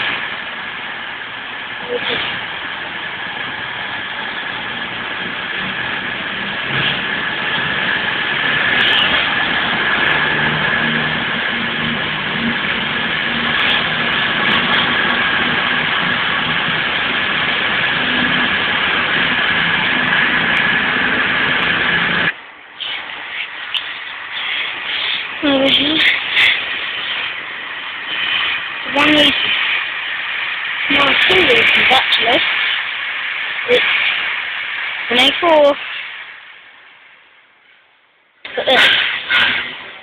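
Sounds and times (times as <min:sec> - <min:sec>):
high even whine: 0:00.0 - 0:40.0
train engine hum: 0:00.0 - 0:40.0.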